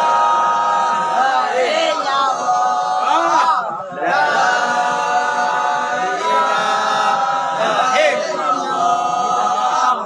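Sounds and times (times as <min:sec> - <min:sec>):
choir singing held notes: 0:00.0 - 0:10.0.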